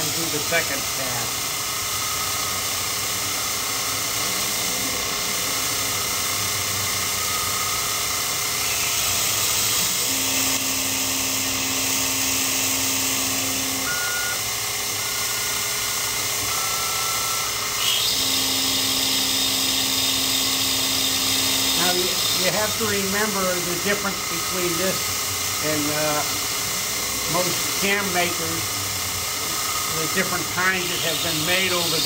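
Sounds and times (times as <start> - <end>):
grinding wheel hissing on steel: 0.0 - 32.0
low motor whine: 0.0 - 32.0.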